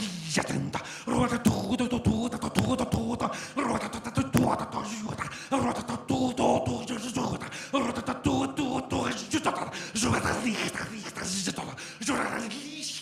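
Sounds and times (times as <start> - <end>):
person making non-word vocal sounds: 0.0 - 13.0.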